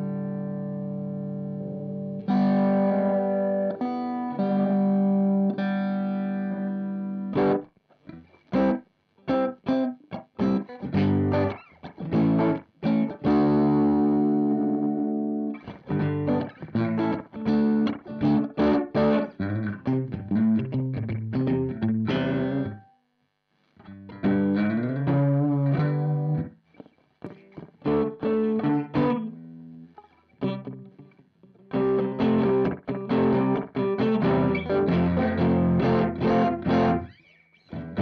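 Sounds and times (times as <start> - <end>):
electric guitar chords with delay: 0.0 - 7.6, 8.5 - 22.8, 23.9 - 26.6, 27.3 - 29.8, 30.4 - 31.1, 31.7 - 38.0.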